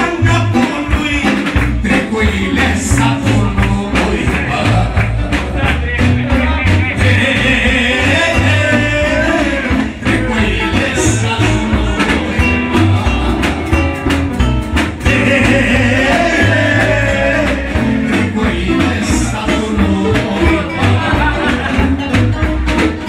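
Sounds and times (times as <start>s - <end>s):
live band with singer: 0.0s - 23.0s.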